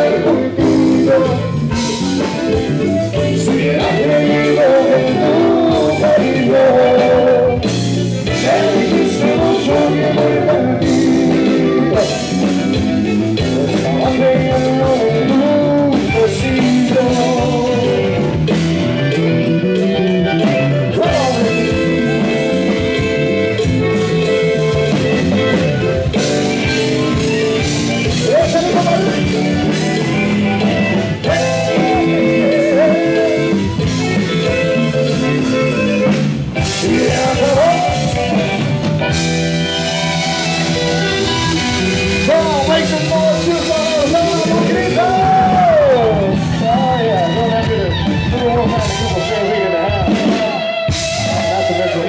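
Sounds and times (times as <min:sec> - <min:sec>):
live band playing: 0:00.0 - 0:52.0.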